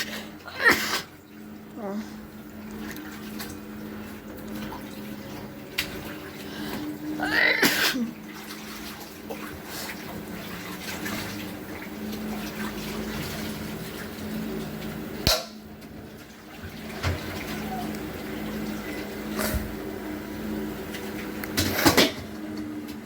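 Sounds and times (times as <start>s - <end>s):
low motor hum: 0.0s - 23.0s
water sloshing in drum: 0.0s - 23.0s.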